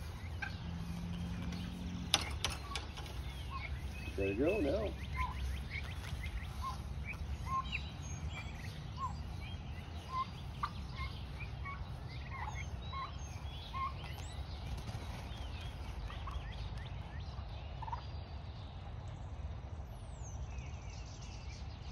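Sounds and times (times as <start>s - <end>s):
low steady rumble: 0.0s - 21.8s
birds chirping and calling: 0.0s - 21.9s.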